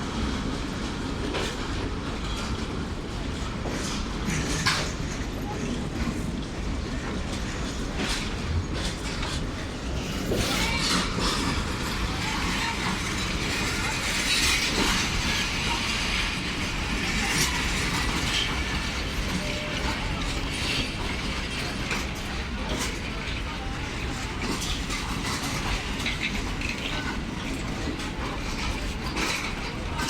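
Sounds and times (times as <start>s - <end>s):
train coaches rumbling: 0.0s - 30.0s.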